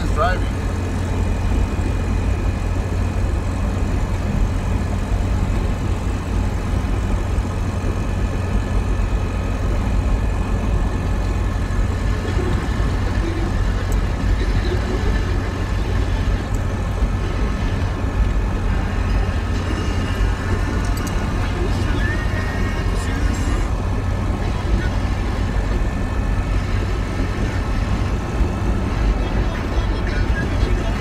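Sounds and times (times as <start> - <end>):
car engine rumble: 0.0 - 31.0
road noise: 0.0 - 31.0.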